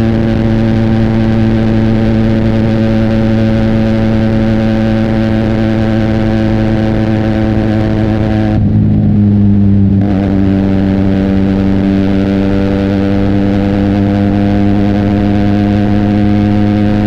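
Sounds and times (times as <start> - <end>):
motorcycle engine steady revs: 0.0 - 17.0.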